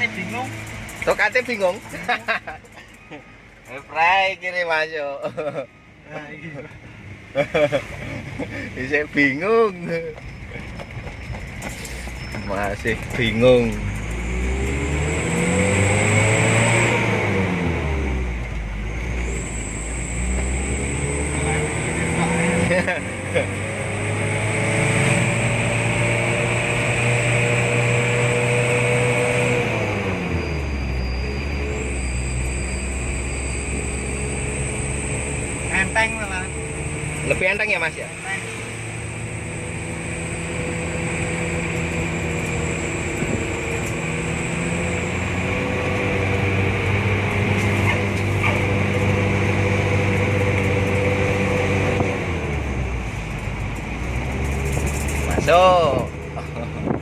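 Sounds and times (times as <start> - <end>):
diesel engine pulling: 0.0 - 57.0.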